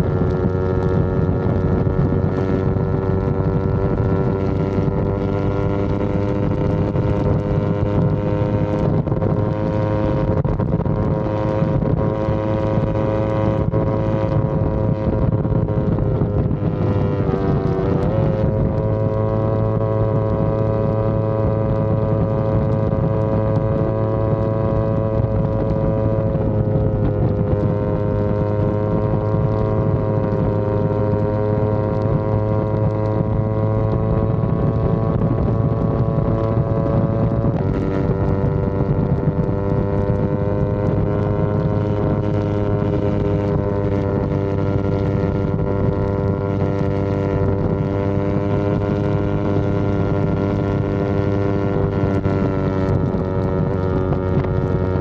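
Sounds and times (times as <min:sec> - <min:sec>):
motorcycle engine at high speed: 0:00.0 - 0:55.0.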